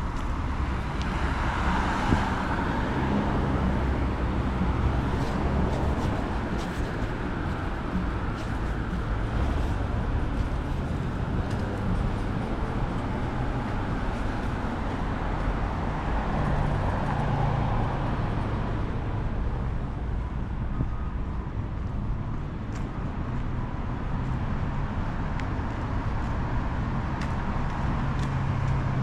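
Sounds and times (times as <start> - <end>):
traffic rumble of passing cars: 0.0 - 29.0.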